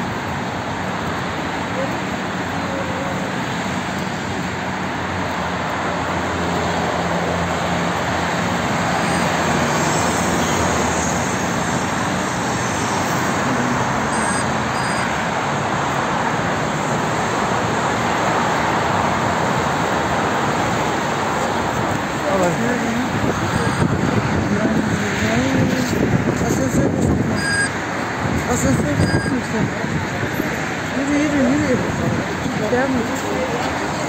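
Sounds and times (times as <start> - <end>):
cars passing on highway: 0.0 - 34.0.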